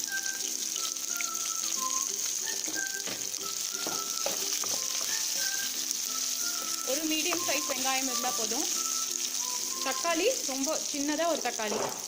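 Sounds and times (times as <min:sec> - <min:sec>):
background music melody: 0:00.0 - 0:11.9
onions sizzling in oil: 0:00.0 - 0:12.0.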